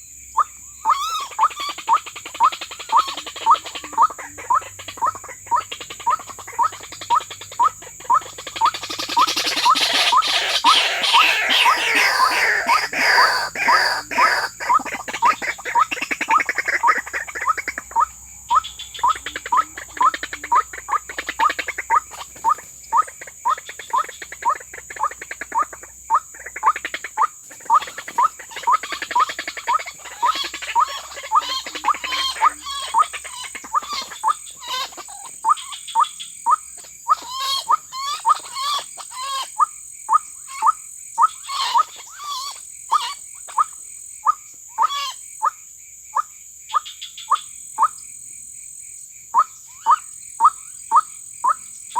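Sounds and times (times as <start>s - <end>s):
high insect drone: 0.0s - 51.9s
waterhen calling: 0.4s - 45.2s.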